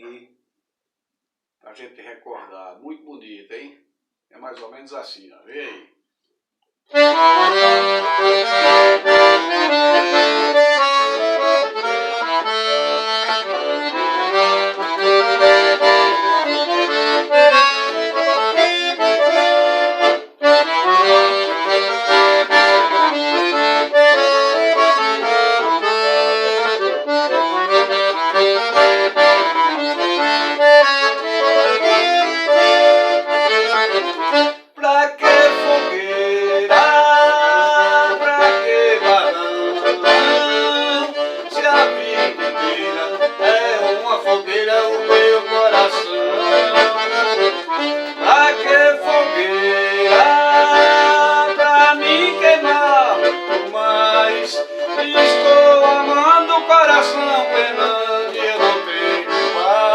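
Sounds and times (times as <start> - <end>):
accordion playing: 6.9 - 59.9.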